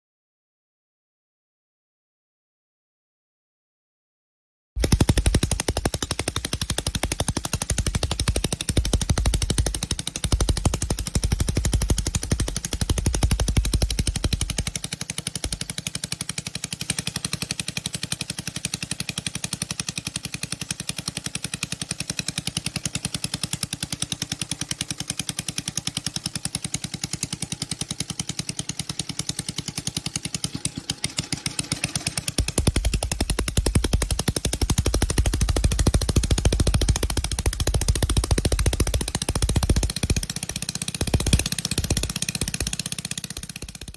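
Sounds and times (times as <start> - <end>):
engine popping steadily: 4.8 - 43.9.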